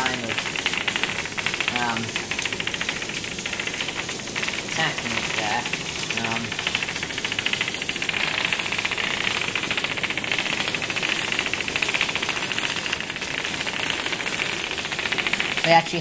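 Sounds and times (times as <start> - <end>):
micro-robots buzzing and rattling: 0.0 - 16.0.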